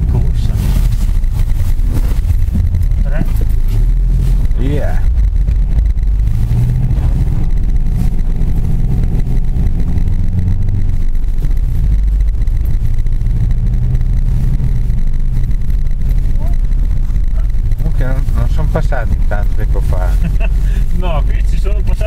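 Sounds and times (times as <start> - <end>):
car engine drone: 0.0 - 22.0.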